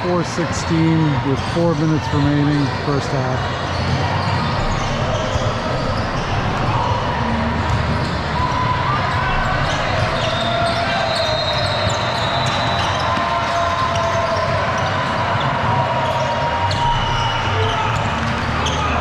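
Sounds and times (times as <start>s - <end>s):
players and spectators talking: 0.0s - 19.0s.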